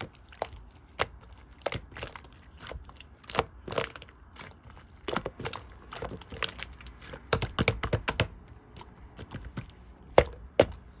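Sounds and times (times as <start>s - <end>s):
slime clicking and popping: 0.0s - 11.0s.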